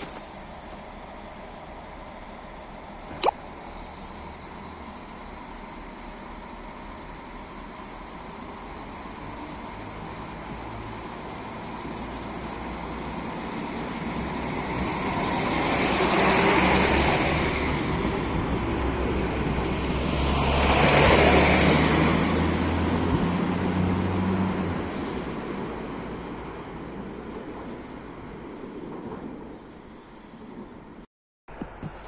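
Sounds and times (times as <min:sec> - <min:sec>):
diesel train engine: 0:00.0 - 0:32.0
train wheels on rails: 0:03.9 - 0:30.8.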